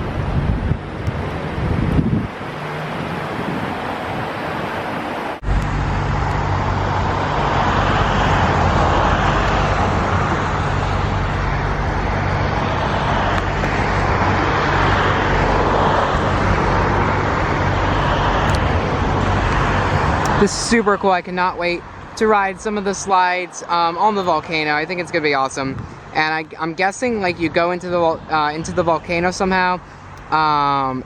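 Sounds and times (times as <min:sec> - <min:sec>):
cars going by: 0:00.0 - 0:31.0.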